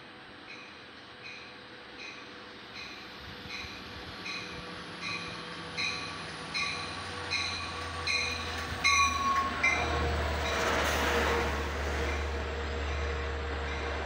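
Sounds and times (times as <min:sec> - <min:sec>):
locomotive engine drone: 0:00.0 - 0:14.0
wheels rushing on rail: 0:00.0 - 0:14.0.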